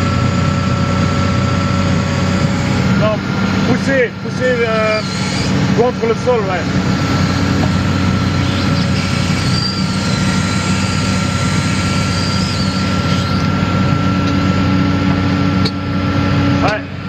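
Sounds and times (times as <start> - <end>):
excavator diesel engine and hydraulics: 0.0 - 17.0
steady high whine: 0.0 - 17.0.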